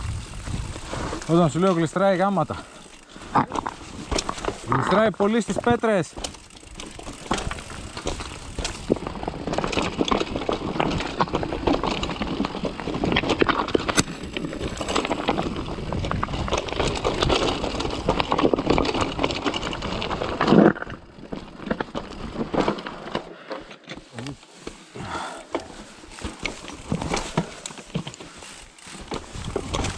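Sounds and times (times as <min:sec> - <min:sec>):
bike rattling over rocks: 0:00.0 - 0:29.9
bike tyres clattering on stones: 0:00.0 - 0:29.9.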